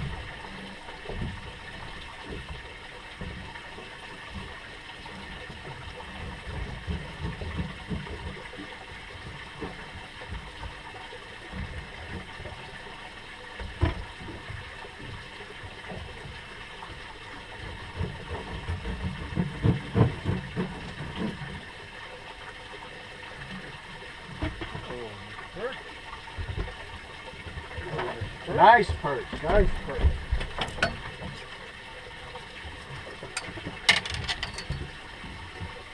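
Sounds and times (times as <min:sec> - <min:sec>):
water against boat hull: 0:00.0 - 0:35.9.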